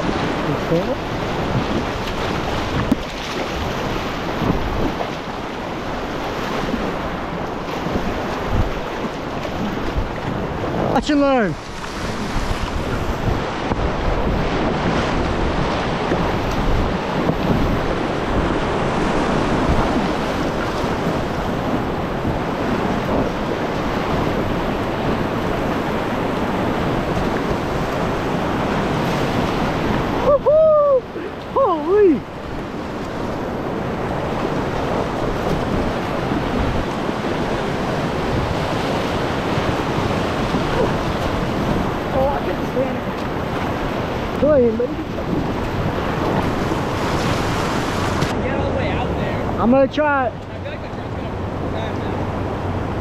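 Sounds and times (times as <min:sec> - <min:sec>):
whitewater rushing and splashing: 0:00.0 - 0:53.0.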